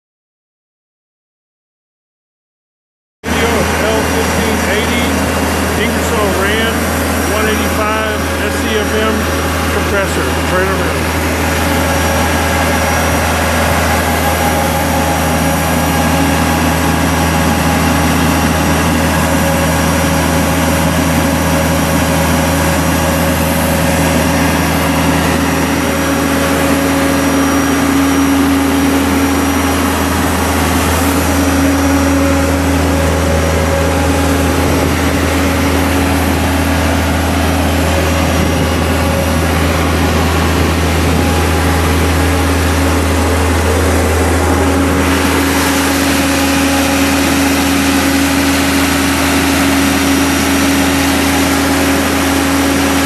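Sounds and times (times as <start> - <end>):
diesel engine hum: 3.2 - 53.0.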